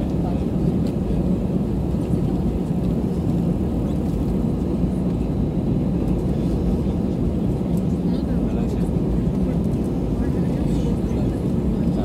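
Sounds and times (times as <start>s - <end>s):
jet engines idling in cabin: 0.0s - 12.0s.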